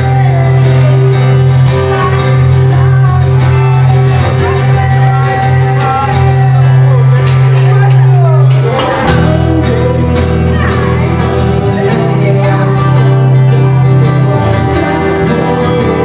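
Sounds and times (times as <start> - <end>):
acoustic guitars: 0.0 - 16.0
person singing: 0.0 - 16.0.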